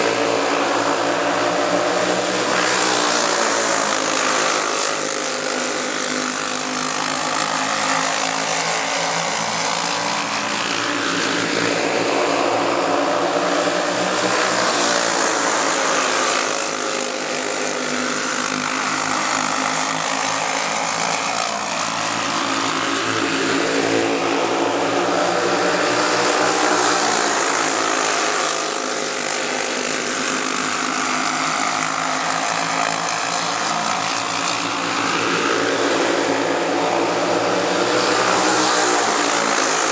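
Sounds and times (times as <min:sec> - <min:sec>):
go-kart engines racing past: 0:00.0 - 0:39.9.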